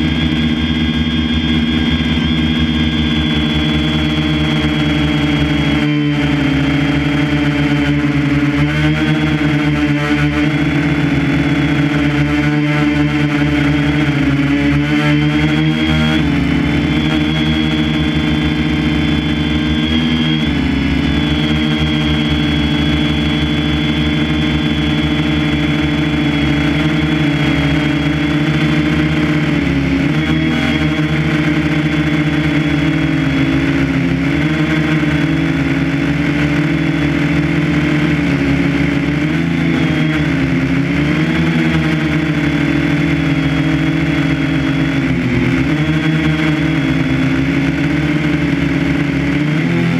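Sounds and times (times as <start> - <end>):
motor humming: 0.0 - 14.5, 15.2 - 49.9.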